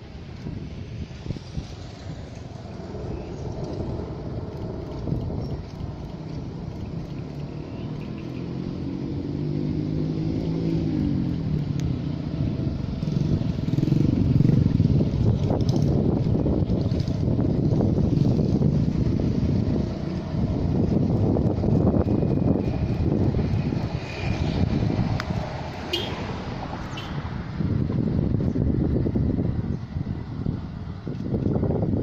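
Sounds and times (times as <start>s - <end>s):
railcar approaching rumble: 0.0s - 9.2s, 10.8s - 32.0s.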